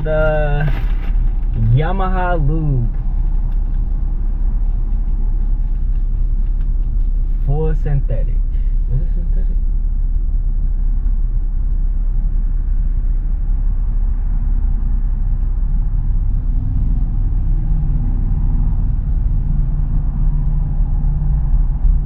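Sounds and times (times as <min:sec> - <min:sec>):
vehicle engine rumble from inside: 0:00.0 - 0:22.0.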